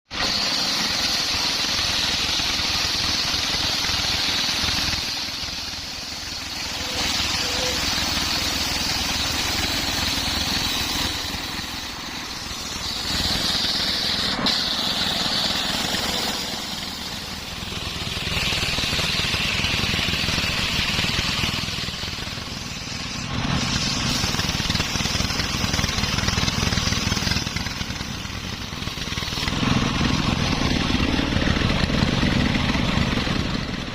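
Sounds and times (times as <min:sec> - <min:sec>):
circular saw cutting log: 0:00.1 - 0:33.9.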